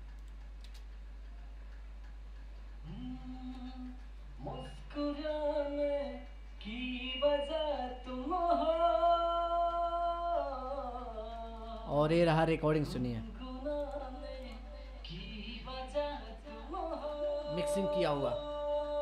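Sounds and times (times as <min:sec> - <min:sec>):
person singing: 0:02.8 - 0:19.0.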